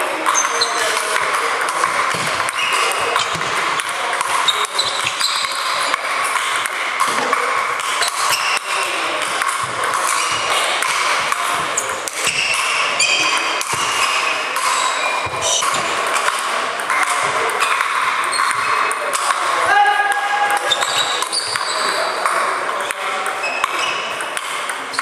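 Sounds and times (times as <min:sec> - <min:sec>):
table tennis ball pings: 0:00.0 - 0:25.0.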